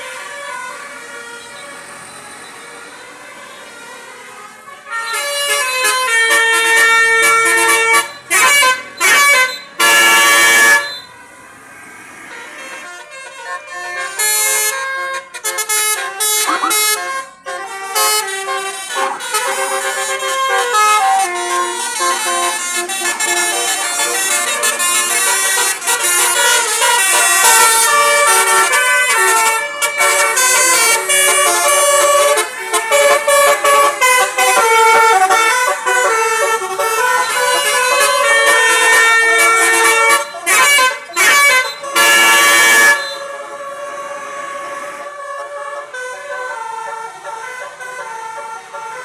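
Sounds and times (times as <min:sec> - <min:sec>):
multi-tone bus horn tune: 0:00.0 - 0:11.3, 0:12.2 - 0:49.0.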